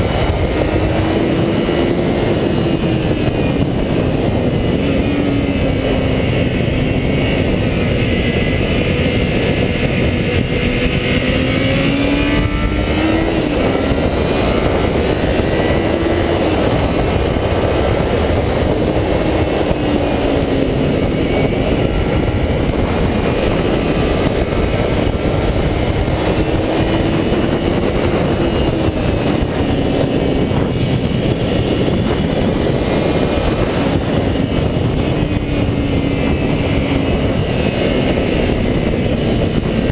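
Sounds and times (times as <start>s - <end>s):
motorcycle engine revving high: 0.0s - 39.9s
wind noise rushing: 0.0s - 39.9s.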